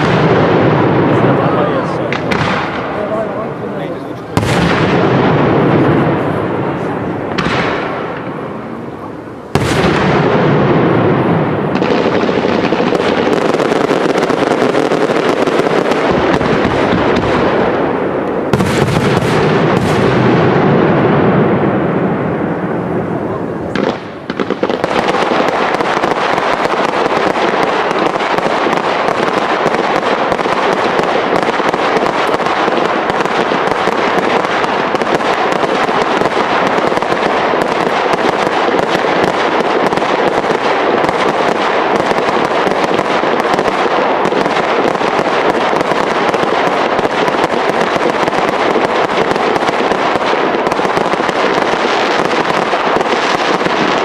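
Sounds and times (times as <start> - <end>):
fireworks crackling: 0.0 - 54.0.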